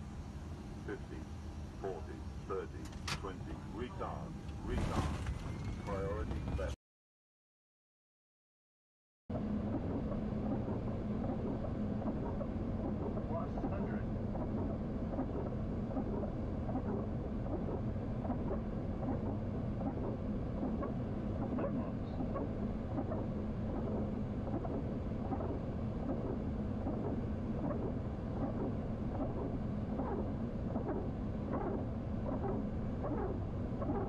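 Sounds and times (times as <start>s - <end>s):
airflow and engine noise: 0.0s - 6.8s, 9.3s - 34.0s
low hum: 0.0s - 6.8s, 9.3s - 34.0s.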